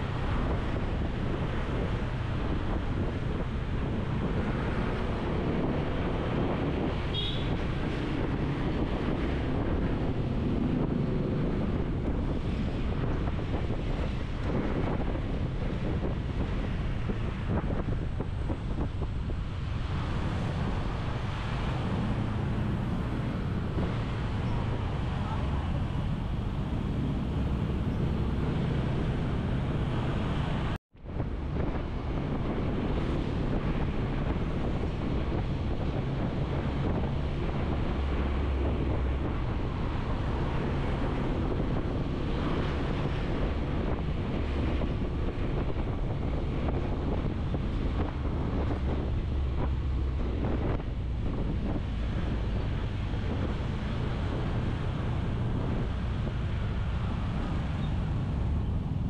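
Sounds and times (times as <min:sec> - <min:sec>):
low road rumble: 0:00.0 - 0:59.0
wind buffeting microphone: 0:00.0 - 0:59.0.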